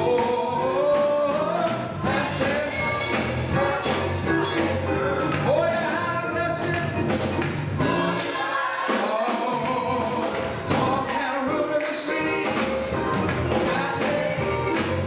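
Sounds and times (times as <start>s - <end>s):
gospel choir singing: 0.0s - 15.0s
instrumental accompaniment: 0.0s - 15.0s
steady percussion beat: 0.0s - 15.0s.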